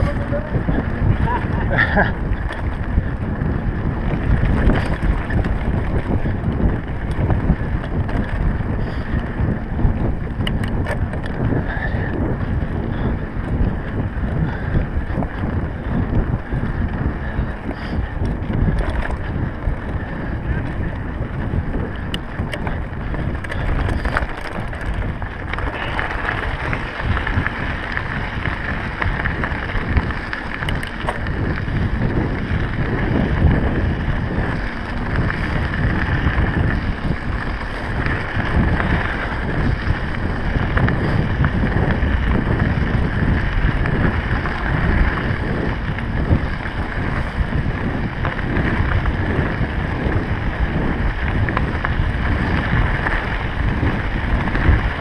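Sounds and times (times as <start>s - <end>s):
tyres rolling on gravel: 0.0s - 55.0s
wind buffeting microphone: 0.0s - 55.0s.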